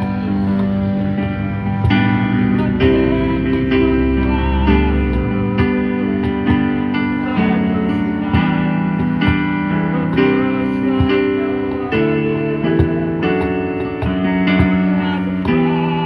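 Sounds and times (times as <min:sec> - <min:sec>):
guitar chords: 0:00.0 - 0:16.0.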